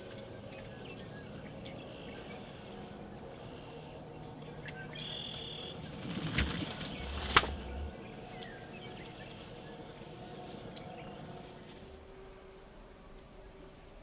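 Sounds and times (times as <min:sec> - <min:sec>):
birds chirping: 0:00.0 - 0:12.0
low rumble: 0:00.0 - 0:12.0.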